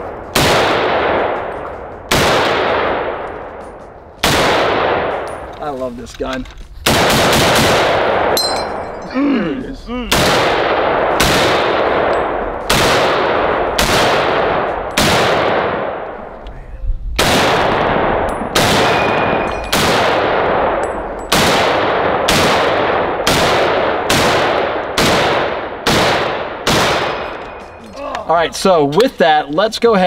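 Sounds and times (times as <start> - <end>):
rifle shots echoing: 0.0 - 5.5, 6.8 - 8.9, 10.1 - 16.4, 17.2 - 27.8.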